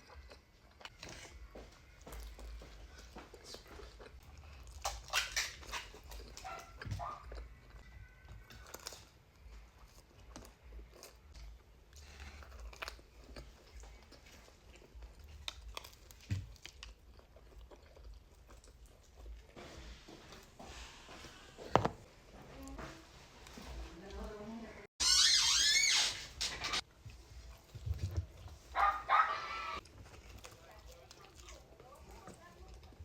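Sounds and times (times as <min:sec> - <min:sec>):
chewing and biting pizza: 0:00.0 - 0:20.9, 0:26.8 - 0:33.0.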